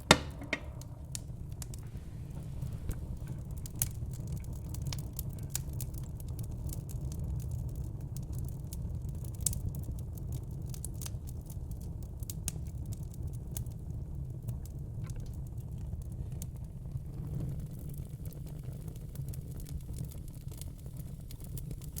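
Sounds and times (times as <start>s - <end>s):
fire crackling with pops: 0.0s - 22.0s
low steady fire rumble: 0.0s - 22.0s.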